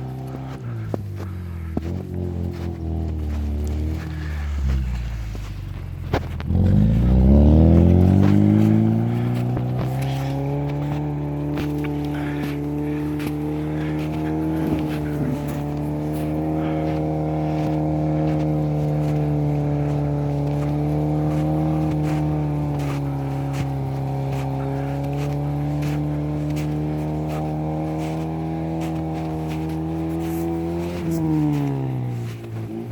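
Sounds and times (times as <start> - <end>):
car engine running: 0.0 - 32.9.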